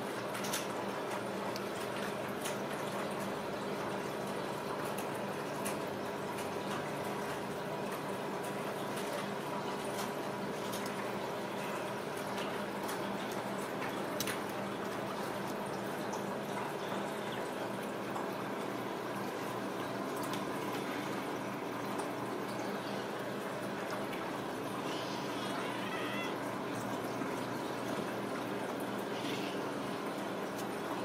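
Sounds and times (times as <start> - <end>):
faint hum: 0.4 - 31.0.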